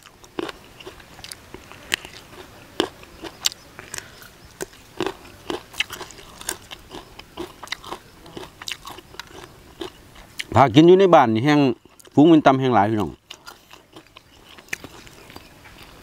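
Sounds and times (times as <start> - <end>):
crisp chewing crunches: 0.0 - 10.6, 11.7 - 12.2, 13.0 - 16.0.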